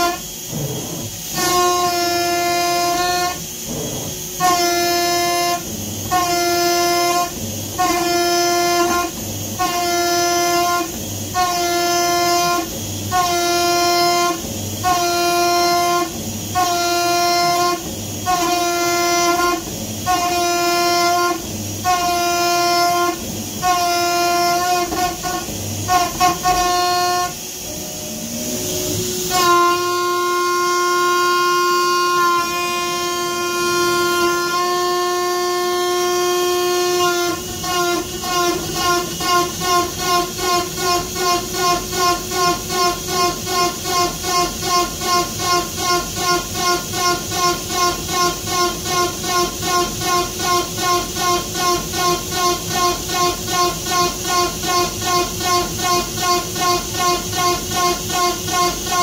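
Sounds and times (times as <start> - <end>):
cnc router motors whining: 0.0 - 59.0.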